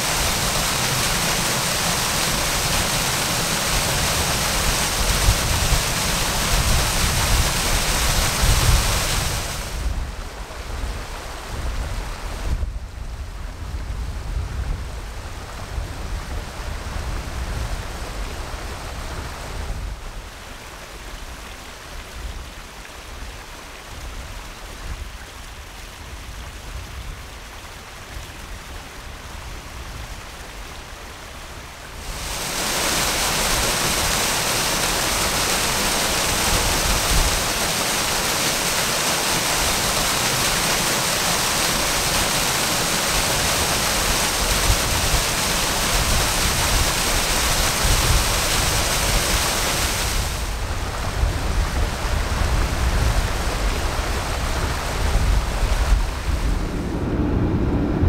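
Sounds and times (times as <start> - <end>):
waterfall rushing into pools: 0.0 - 12.6, 15.0 - 56.7.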